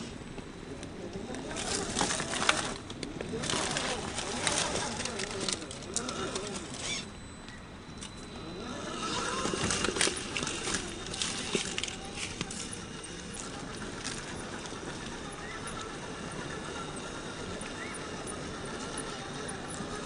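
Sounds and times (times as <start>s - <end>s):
rc car crunching over rocks: 1.1s - 7.1s, 8.0s - 20.0s.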